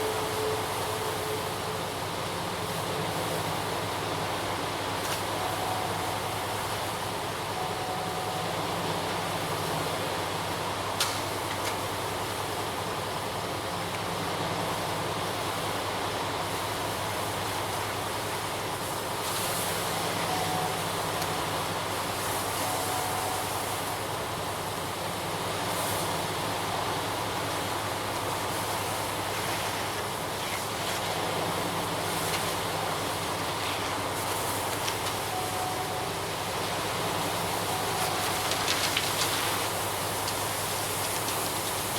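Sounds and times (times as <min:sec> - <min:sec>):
diesel truck engine humming: 0:00.0 - 0:10.9, 0:12.0 - 0:41.9.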